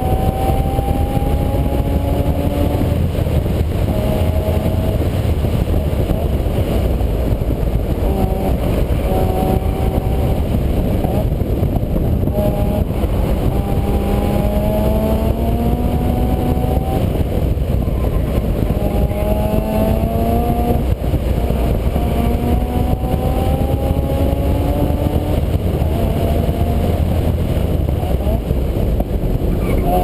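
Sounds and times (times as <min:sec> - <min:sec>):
vehicle engine accelerating: 0:00.0 - 0:30.0.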